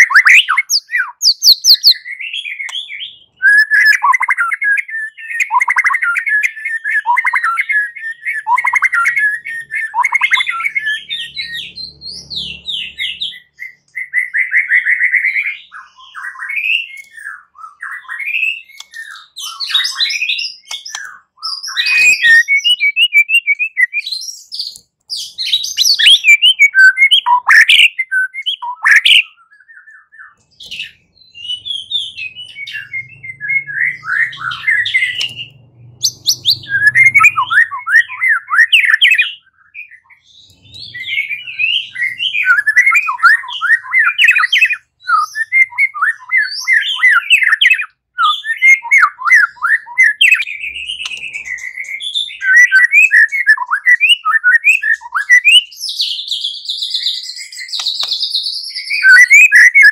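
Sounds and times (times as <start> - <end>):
songbird singing chirps and trills: 0.0 - 59.9.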